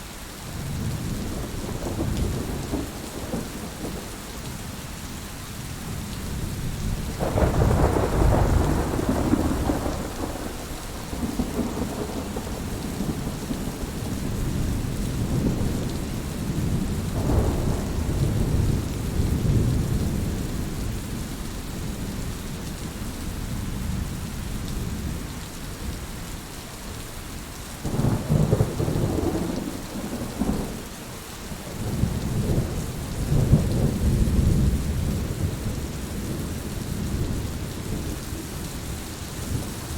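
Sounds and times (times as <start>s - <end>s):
steady rain falling: 0.0s - 39.9s
thunder rumbling: 0.6s - 4.8s, 5.8s - 22.3s, 27.8s - 30.9s, 31.6s - 39.9s.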